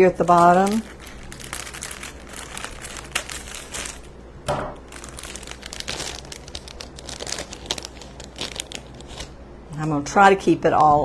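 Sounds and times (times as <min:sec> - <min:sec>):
plastic bag crinkling: 0:00.0 - 0:04.2, 0:04.8 - 0:09.4.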